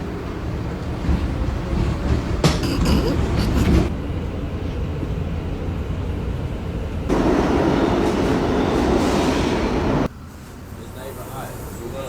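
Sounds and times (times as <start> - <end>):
subway train wheels rumbling on rails: 0.0 - 12.0.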